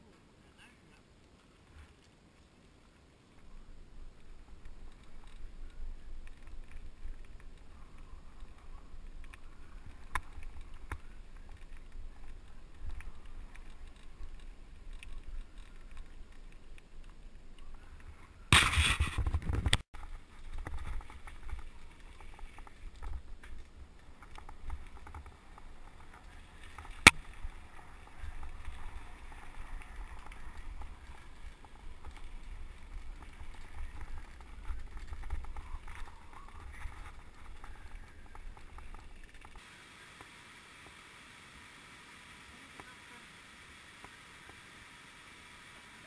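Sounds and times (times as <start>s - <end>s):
bicycle tyres rattling on path: 1.4s - 39.6s.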